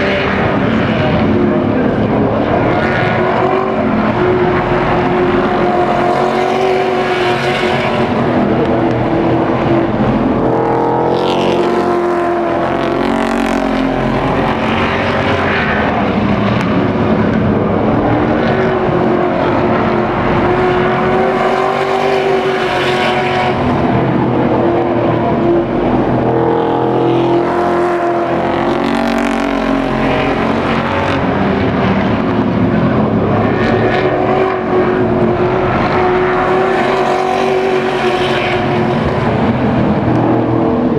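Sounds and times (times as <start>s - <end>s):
race truck engines: 0.0s - 40.9s.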